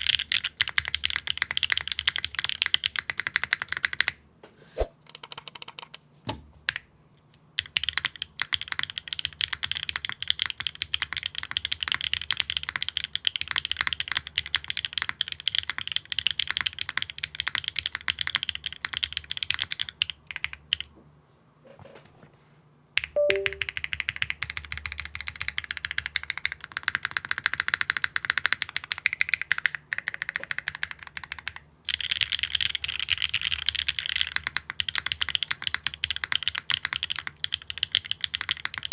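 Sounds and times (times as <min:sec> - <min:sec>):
fast mechanical keyboard typing: 0:00.0 - 0:04.1, 0:05.1 - 0:06.0, 0:07.6 - 0:20.9, 0:23.0 - 0:38.9.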